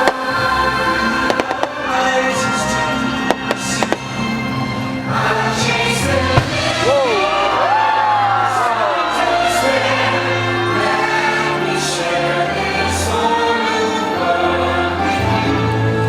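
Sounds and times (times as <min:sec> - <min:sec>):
choir singing long held notes: 0:00.0 - 0:16.0
orchestral music over loudspeakers: 0:00.0 - 0:16.0.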